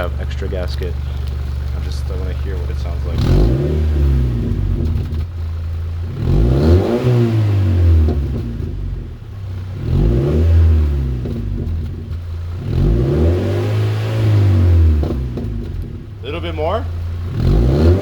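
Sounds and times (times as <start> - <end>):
raspy car engine revving: 0.0 - 18.0.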